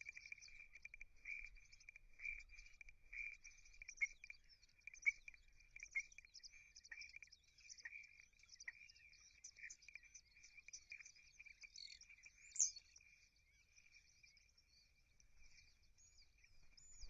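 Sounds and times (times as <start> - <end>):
birds chirping chorus: 0.0 - 17.0.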